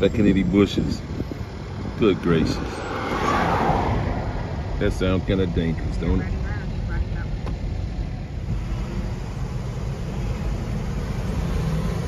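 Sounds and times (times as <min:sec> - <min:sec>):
car driving rumble from inside: 0:00.0 - 0:12.0.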